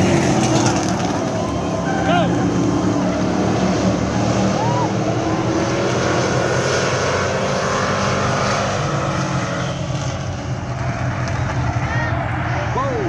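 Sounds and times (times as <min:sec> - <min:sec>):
race truck engines: 0:00.0 - 0:13.0.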